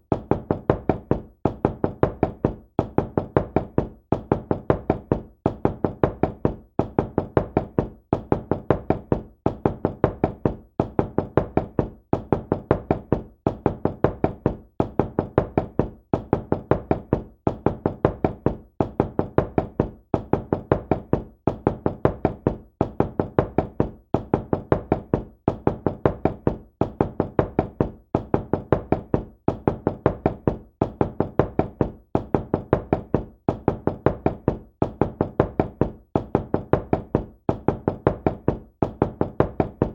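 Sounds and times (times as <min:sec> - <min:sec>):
knocking on a door: 0:00.0 - 0:39.9.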